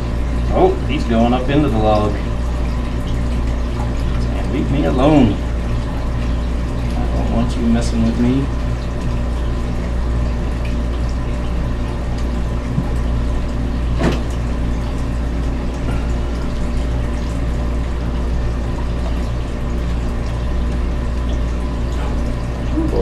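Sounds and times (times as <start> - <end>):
aquarium pumps humming and rushing: 0.0 - 23.0.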